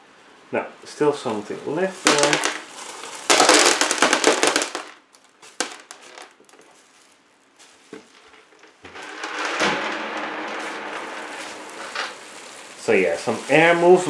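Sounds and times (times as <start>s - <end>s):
bubble wrap crackling: 1.7s - 8.8s, 9.5s - 14.0s.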